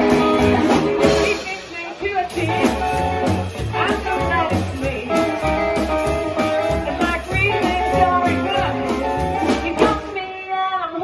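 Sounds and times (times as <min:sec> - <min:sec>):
upright double bass: 0:00.0 - 0:01.5, 0:02.3 - 0:10.0
drums: 0:00.0 - 0:11.0
electric guitar: 0:00.0 - 0:11.0
woman singing: 0:01.0 - 0:05.6, 0:06.6 - 0:11.0.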